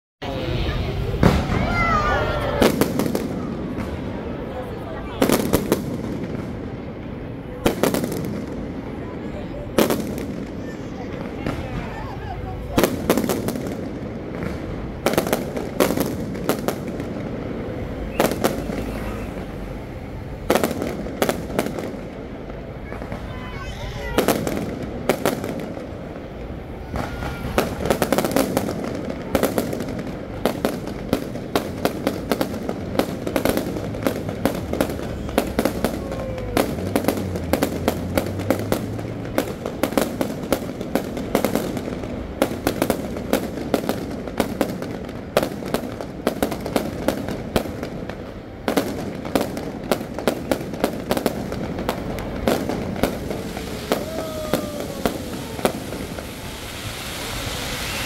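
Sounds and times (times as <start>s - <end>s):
fireworks bangs and crackles: 0.2s - 58.0s.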